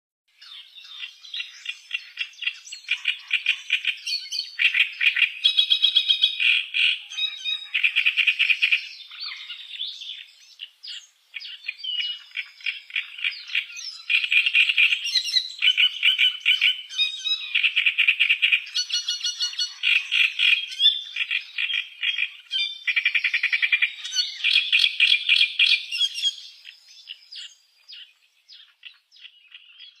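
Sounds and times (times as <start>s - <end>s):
songbird trilling: 0.4s - 30.0s.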